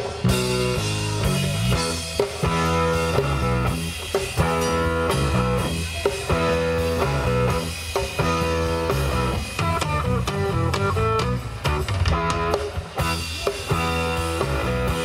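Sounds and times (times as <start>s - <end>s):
drum kit: 0.0s - 15.0s
electric bass: 0.0s - 15.0s
electric guitar riff: 0.0s - 15.0s.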